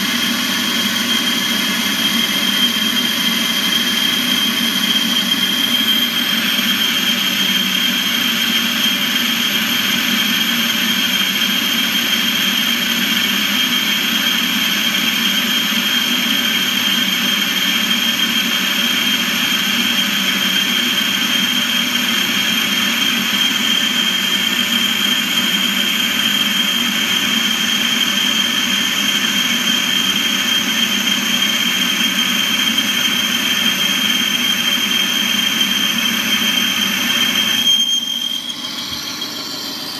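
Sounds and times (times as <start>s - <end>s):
metal lathe cutting with whine: 0.0s - 39.9s.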